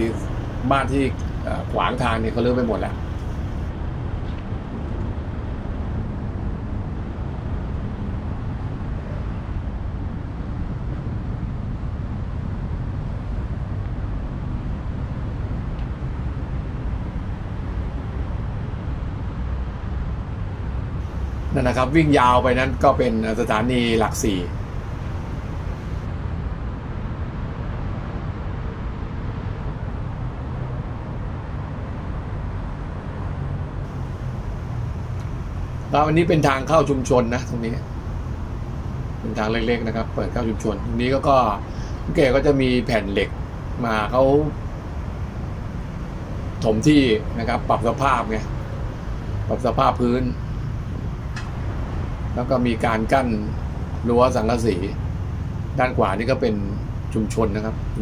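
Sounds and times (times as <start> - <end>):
city traffic: 0.0 - 58.0
wind rumble on microphone: 0.0 - 58.0.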